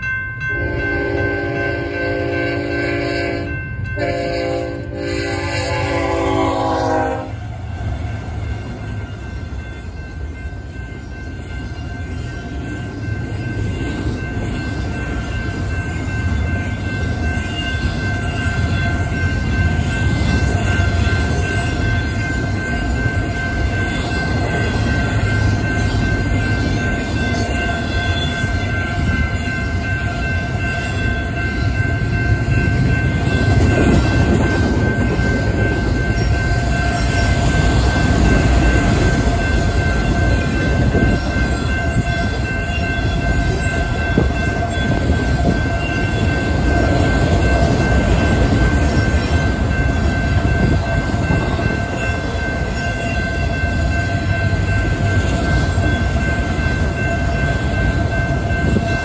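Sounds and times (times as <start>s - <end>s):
freight train cars rumbling: 0.0s - 59.0s.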